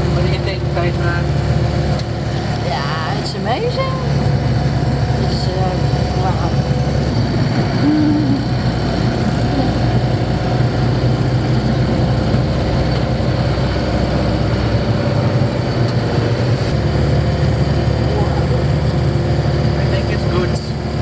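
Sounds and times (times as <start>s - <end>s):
van engine and road noise: 0.0s - 21.0s.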